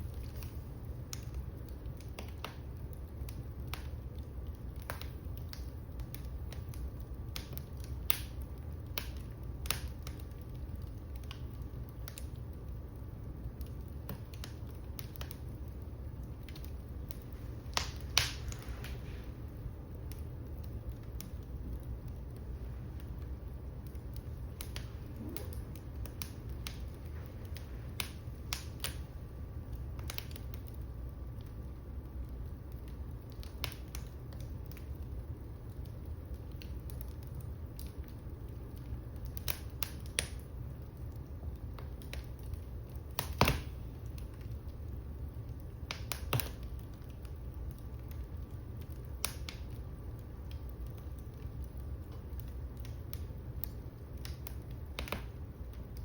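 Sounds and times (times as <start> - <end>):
sharp fire pops: 0.0 - 44.7, 45.3 - 56.0
fireplace fire crackling: 0.0 - 56.0
low fire rumble: 0.0 - 56.0.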